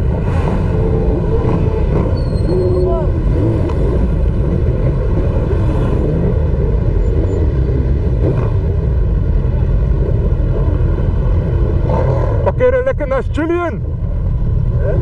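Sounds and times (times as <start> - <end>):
rumbling wind noise: 0.0 - 15.0.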